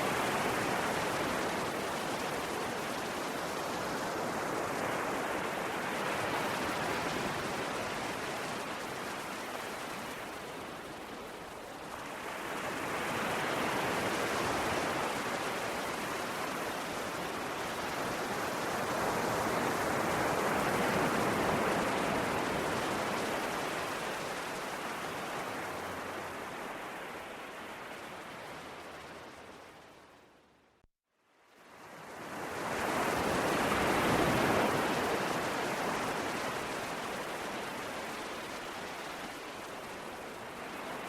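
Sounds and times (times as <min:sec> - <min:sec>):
ocean waves washing ashore: 0:00.0 - 0:30.6, 0:31.5 - 0:41.0.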